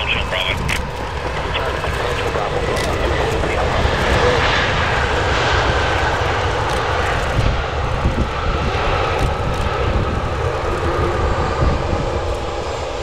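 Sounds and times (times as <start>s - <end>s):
high engine whine: 0.0s - 13.0s
jet engines running loud: 0.0s - 13.0s.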